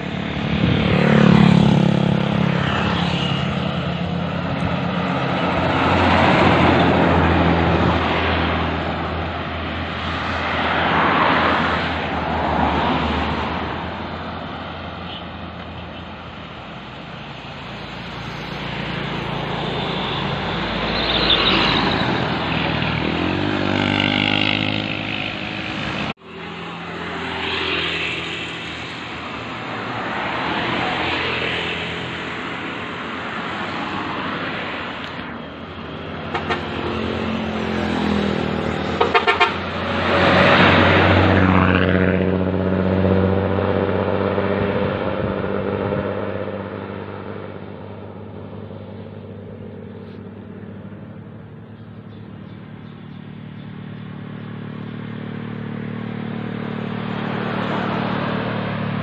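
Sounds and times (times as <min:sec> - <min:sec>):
bus passing: 0:00.0 - 0:59.0
cars driving past: 0:00.0 - 0:59.0
motorcycles passing: 0:00.0 - 0:59.0.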